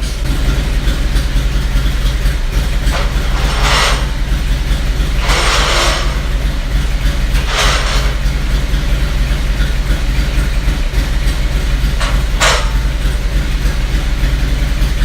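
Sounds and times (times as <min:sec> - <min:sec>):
motorcycle engine bursts: 0:00.0 - 0:15.0
motorcycle engine idling: 0:00.0 - 0:15.0.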